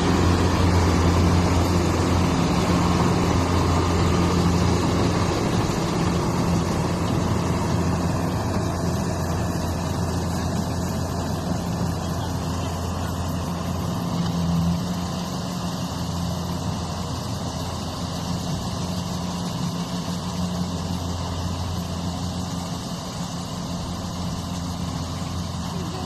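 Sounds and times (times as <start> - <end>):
large engine running steadily: 0.0 - 26.0.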